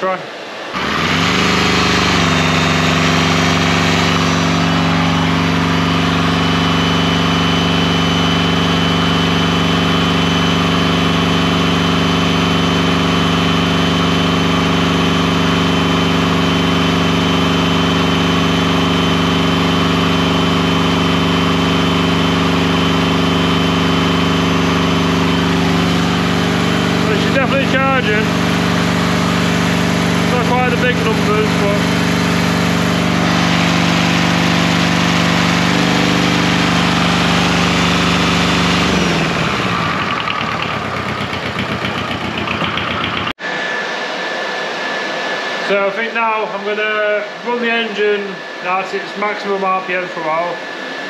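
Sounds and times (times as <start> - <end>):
engine running steadily: 0.0 - 51.0.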